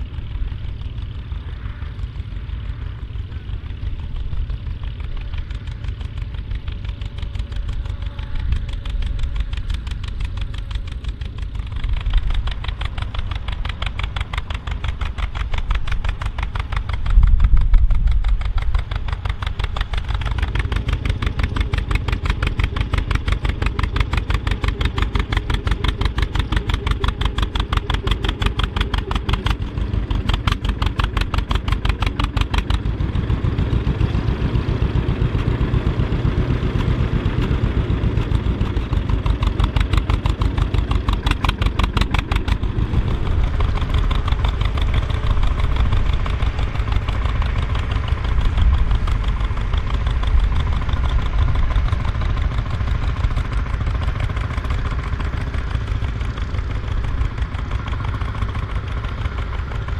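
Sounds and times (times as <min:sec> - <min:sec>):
tractor engine popping exhaust: 0:00.0 - 0:59.9.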